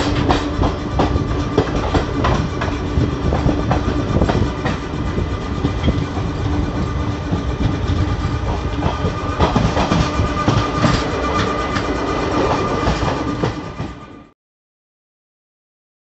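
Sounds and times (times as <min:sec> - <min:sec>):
wheels clicking over rail joints: 0:00.0 - 0:14.0
train coach rumbling: 0:00.0 - 0:14.3.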